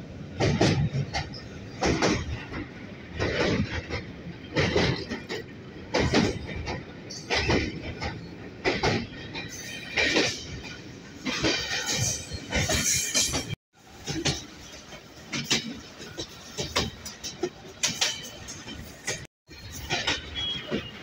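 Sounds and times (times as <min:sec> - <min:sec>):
train wheels clattering over joints: 0:00.3 - 0:21.0.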